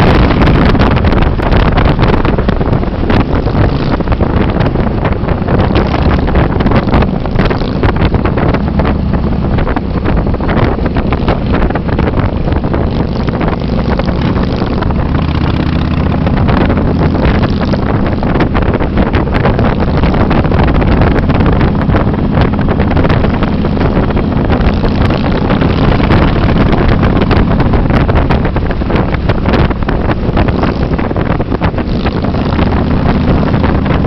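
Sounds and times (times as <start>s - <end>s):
motorcycle engine cruising: 0.0s - 34.0s
wind buffeting microphone: 0.0s - 34.0s.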